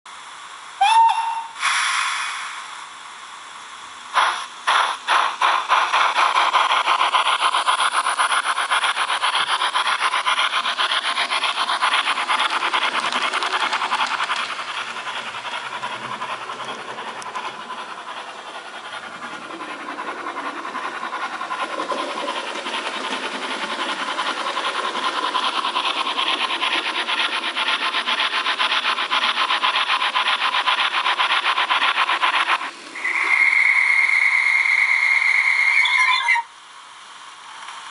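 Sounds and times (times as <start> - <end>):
model steam locomotive running: 0.2 - 37.9.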